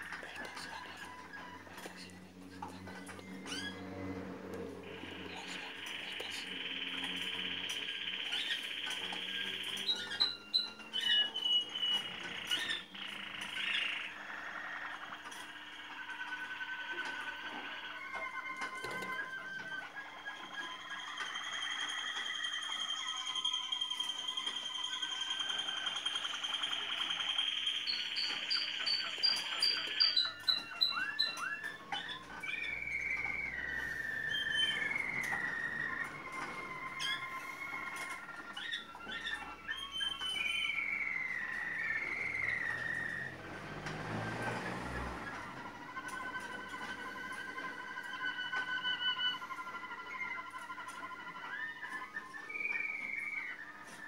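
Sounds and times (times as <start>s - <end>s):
canary singing trills: 0.0s - 45.4s, 46.0s - 54.0s.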